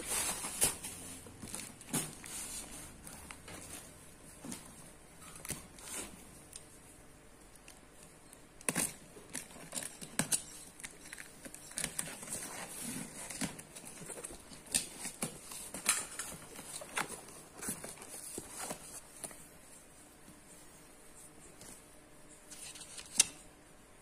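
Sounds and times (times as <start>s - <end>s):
cardboard and plastic rustling: 0.0s - 6.8s, 7.6s - 23.3s.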